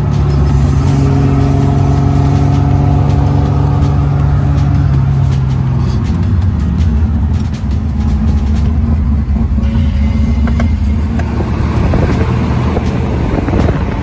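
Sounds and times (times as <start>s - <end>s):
car engine running: 0.0s - 14.0s
road noise inside moving car: 0.0s - 14.0s.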